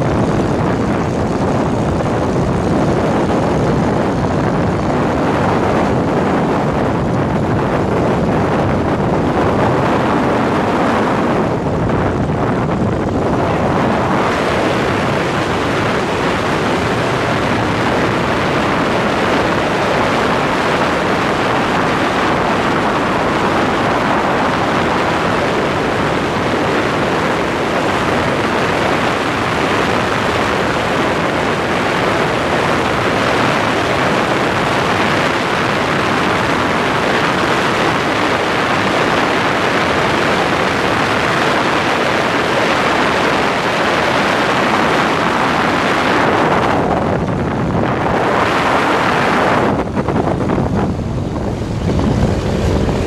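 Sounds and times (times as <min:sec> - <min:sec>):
water rushing past boat: 0:00.0 - 0:53.0
wind buffeting microphone: 0:00.0 - 0:53.0.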